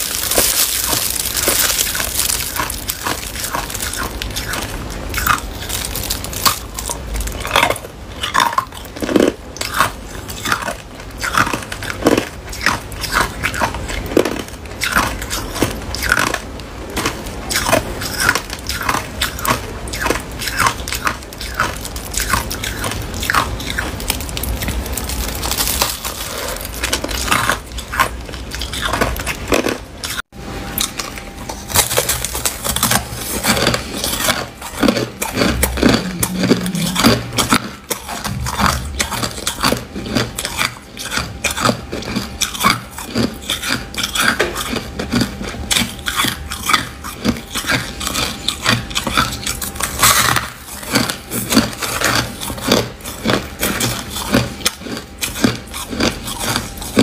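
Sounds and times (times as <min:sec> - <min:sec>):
crushed ice being chewed: 0:00.0 - 0:57.0.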